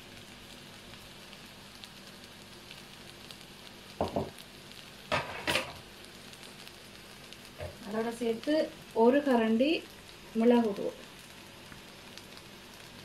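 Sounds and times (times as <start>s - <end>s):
fried rice sizzling in a pan: 0.0s - 13.0s.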